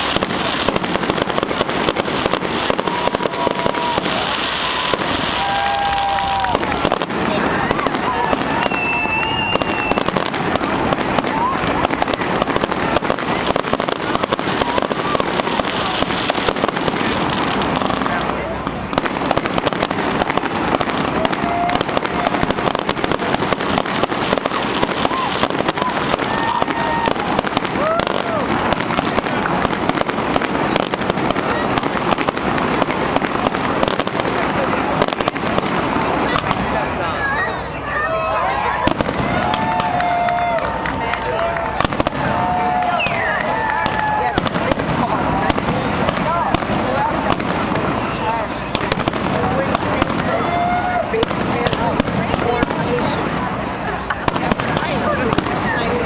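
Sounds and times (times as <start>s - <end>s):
fireworks bangs: 0.0s - 56.0s
fireworks crackling and popping: 0.0s - 56.0s.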